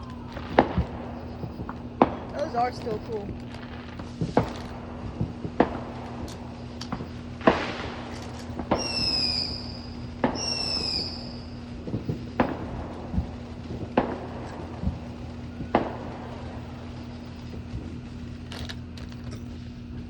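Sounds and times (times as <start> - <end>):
firework bangs: 0.0 - 20.0
whistling fireworks: 0.0 - 20.0.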